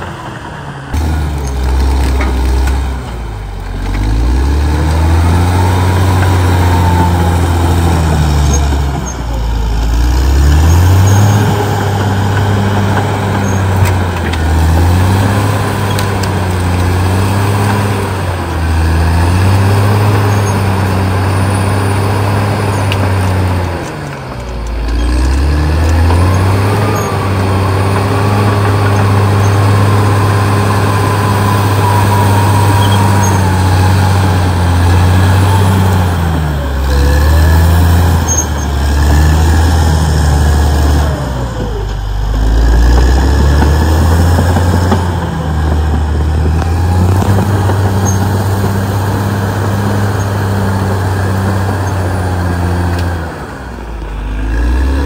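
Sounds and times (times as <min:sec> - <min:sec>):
bulldozer diesel engine revving: 0:00.0 - 0:55.0
high engine whine: 0:00.0 - 0:55.0.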